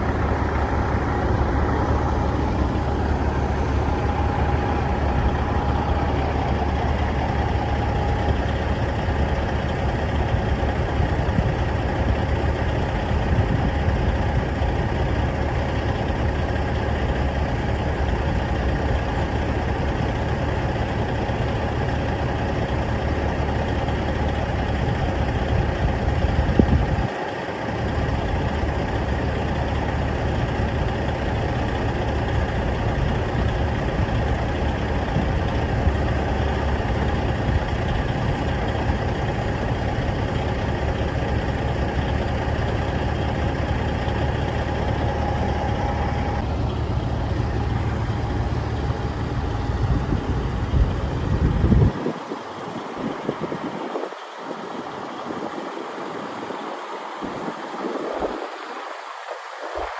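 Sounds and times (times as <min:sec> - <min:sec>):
diesel truck engine idling: 0:00.0 - 0:58.4.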